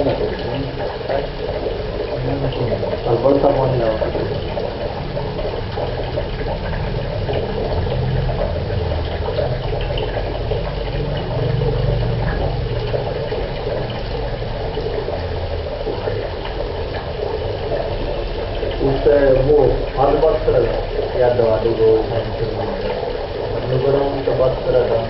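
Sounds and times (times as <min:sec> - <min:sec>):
tap water filling bucket: 0:00.0 - 0:25.0.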